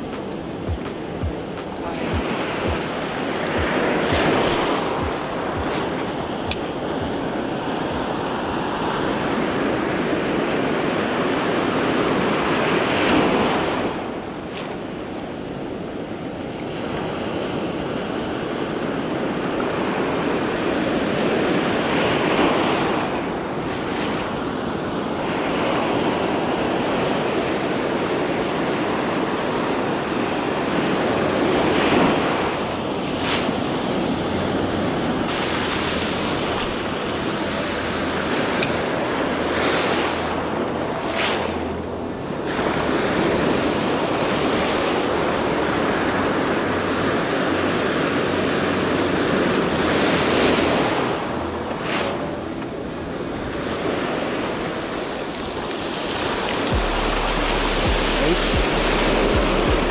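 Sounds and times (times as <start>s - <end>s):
surf breaking on beach: 0.0s - 59.9s
wind buffeting microphone: 0.0s - 59.9s.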